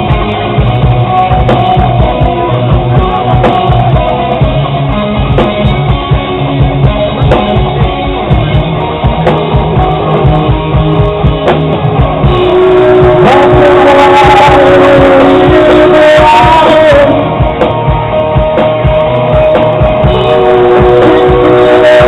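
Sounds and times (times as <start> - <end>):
held guitar notes: 0.0 - 22.0
rock band playing: 0.0 - 22.0.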